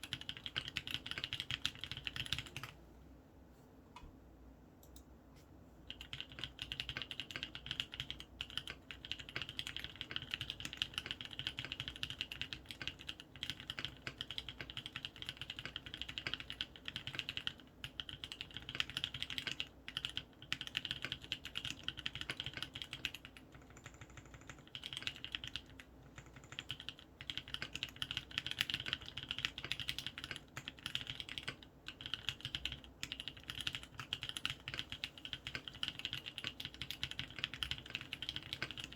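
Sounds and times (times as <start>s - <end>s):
fast mechanical keyboard typing: 0.0s - 2.8s, 5.9s - 38.9s.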